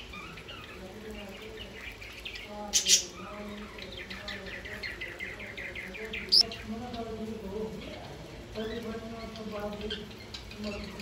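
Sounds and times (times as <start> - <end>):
budgerigars chattering and chirping: 0.0 - 11.0
sharp bird calls: 0.0 - 11.0.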